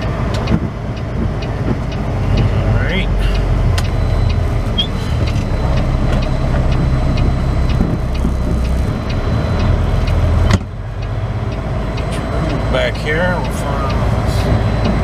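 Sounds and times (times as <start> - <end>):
light ticking: 0.0 - 15.0
truck engine running: 0.0 - 15.0.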